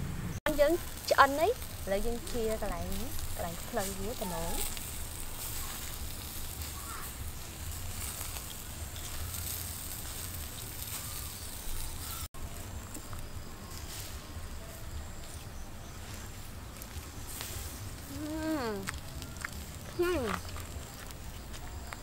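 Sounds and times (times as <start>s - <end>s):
low outdoor rumble: 0.0s - 22.0s
chicken sizzling over embers: 0.4s - 22.0s.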